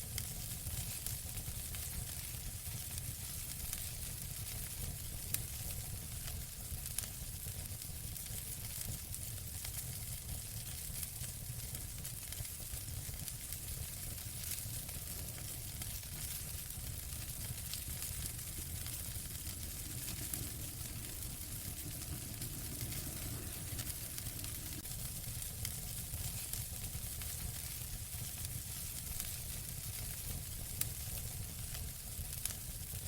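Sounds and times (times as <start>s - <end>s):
fire crackling and popping: 0.0s - 33.0s
fire flames rumbling: 0.0s - 33.0s.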